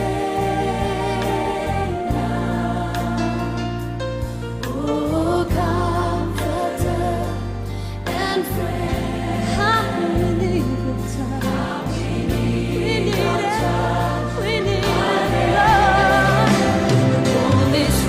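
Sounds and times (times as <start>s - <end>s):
choir singing with vibrato: 0.0s - 18.0s
sustained bass accompaniment: 0.0s - 18.0s.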